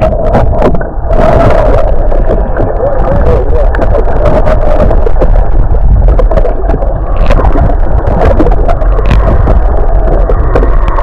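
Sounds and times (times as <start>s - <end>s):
motorboat engine rumble: 0.0s - 11.0s
water rushing and splashing: 0.0s - 11.0s.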